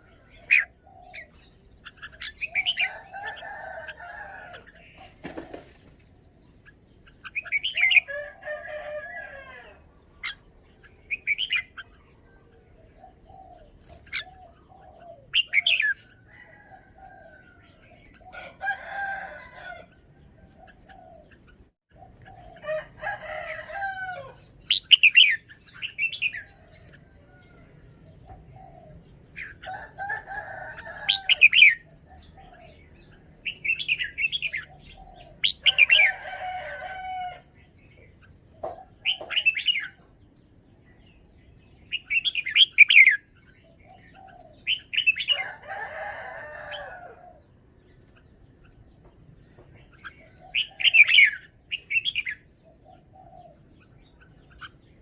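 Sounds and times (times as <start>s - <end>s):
bird singing: 0.0s - 55.0s.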